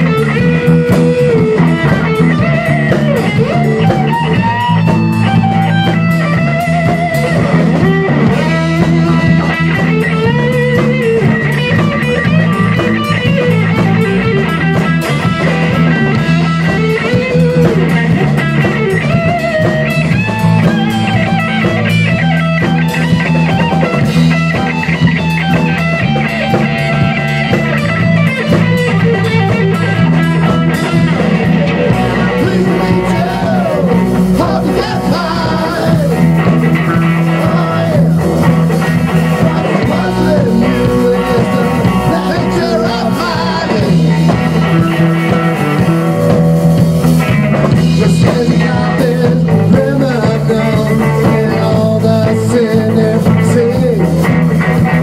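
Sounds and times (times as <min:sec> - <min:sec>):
bass guitar: 0:00.0 - 0:55.0
drum kit: 0:00.0 - 0:55.0
electric guitar: 0:00.0 - 0:55.0
rock band playing live: 0:00.0 - 0:55.0.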